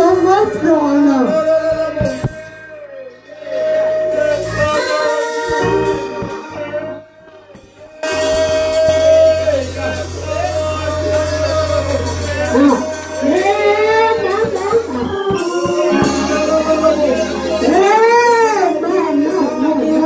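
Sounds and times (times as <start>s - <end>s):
organ holding chords: 0.0s - 20.0s
voices singing: 0.0s - 20.0s
drum kit and cymbals: 1.7s - 6.8s, 7.5s - 18.8s.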